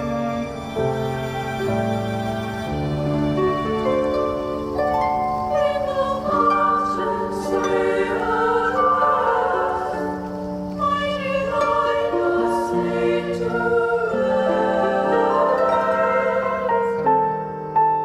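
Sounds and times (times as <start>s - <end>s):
wordless choir singing sustained chords: 0.0s - 17.8s.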